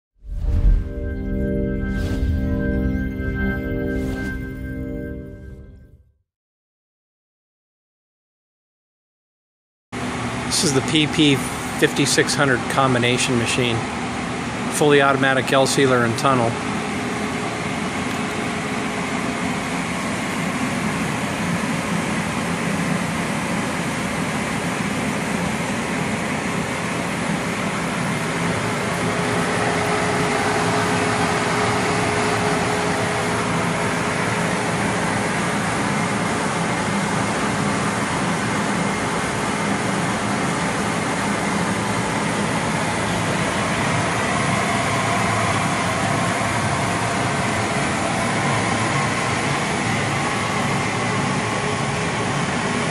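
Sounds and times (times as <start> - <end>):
machine whirring and humming: 0.2 - 5.8, 10.0 - 52.9.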